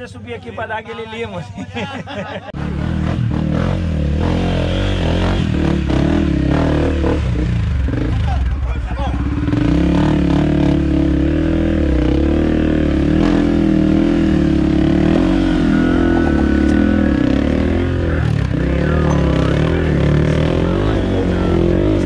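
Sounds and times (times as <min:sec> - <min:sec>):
dirt bike engine revving: 0:02.5 - 0:22.0.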